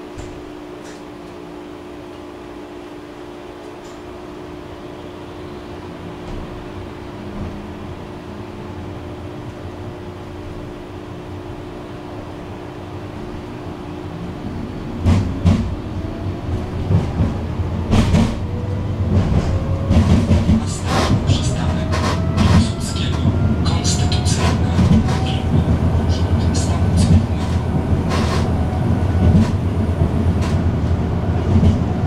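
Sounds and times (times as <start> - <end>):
tram electric hum: 0.0 - 32.0.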